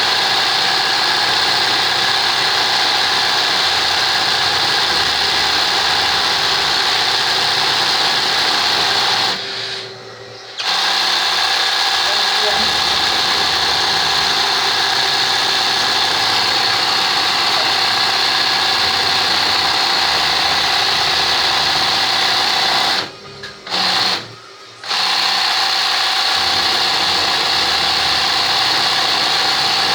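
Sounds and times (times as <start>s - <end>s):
sewing machine running: 0.0s - 9.9s, 10.5s - 29.9s.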